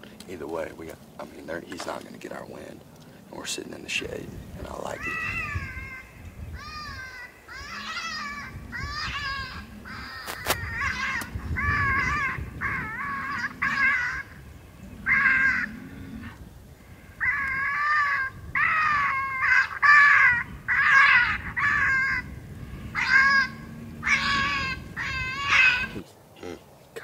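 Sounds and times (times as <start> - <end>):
predator call distress cries: 4.6 - 26.6.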